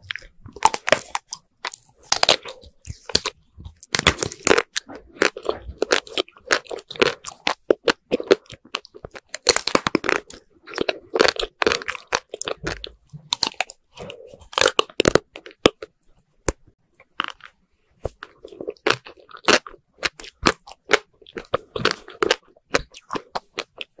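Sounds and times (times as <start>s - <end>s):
wet chewing mouth sounds: 0.0s - 24.0s
ice cream coating cracking: 0.1s - 24.0s.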